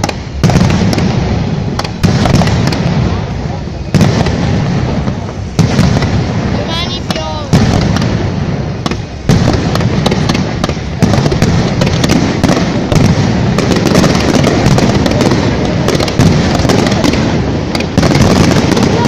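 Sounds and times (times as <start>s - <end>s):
fireworks crackling and popping: 0.0s - 19.0s
heavy firework bangs: 0.0s - 19.0s.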